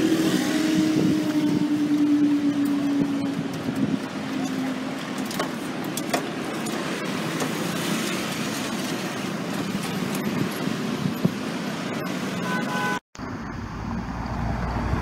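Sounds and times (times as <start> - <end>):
cars driving over level crossing: 0.0 - 12.6.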